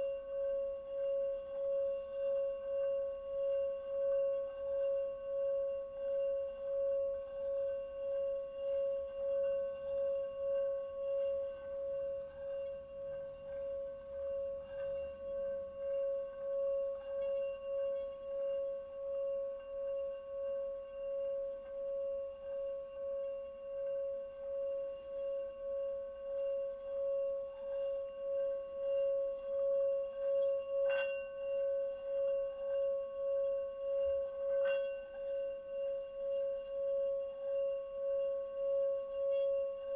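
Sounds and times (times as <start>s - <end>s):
singing bowl ringing: 0.0s - 39.9s.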